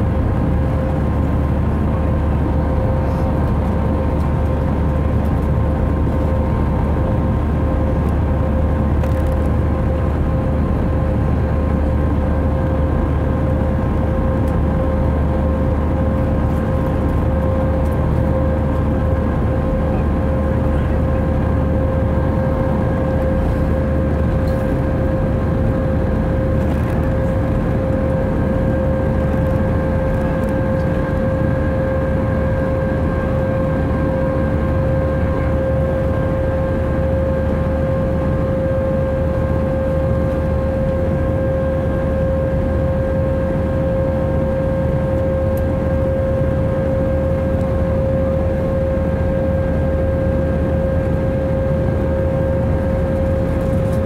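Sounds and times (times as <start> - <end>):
jet engines in cabin: 0.0 - 54.0.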